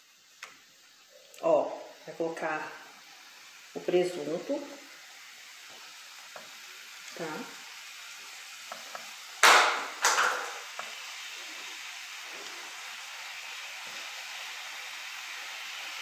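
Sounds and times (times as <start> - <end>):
meat sizzling in a pan: 0.0 - 16.0
sharp loud sizzle bursts: 0.0 - 16.0.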